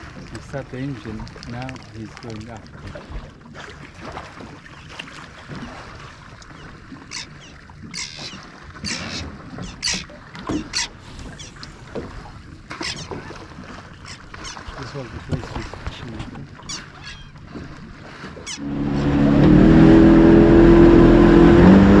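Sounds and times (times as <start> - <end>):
motorboat engine and water rumble: 0.0 - 22.0
sharp water splashes: 0.0 - 22.0.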